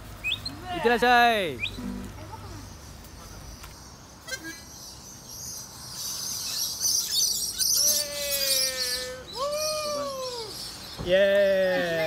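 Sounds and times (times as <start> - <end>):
birds chirping: 0.0 - 12.0
long drawn-out bird calls: 1.6 - 12.0.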